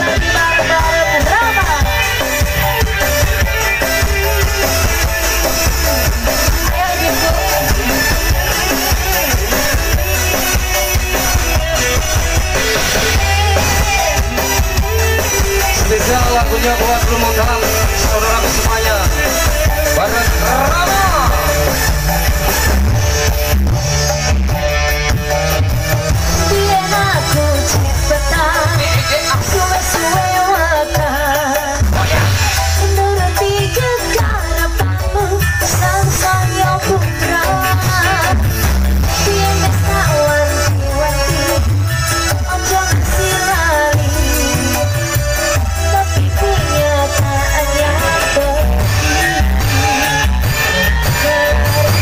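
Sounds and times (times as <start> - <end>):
person singing: 0.0 - 22.4, 26.4 - 52.0
heavy bass and drums: 0.0 - 52.0
loud band music over speakers: 0.0 - 52.0.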